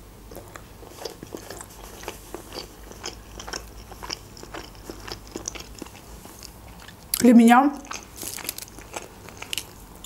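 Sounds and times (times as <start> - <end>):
person chewing food: 0.3 - 10.0.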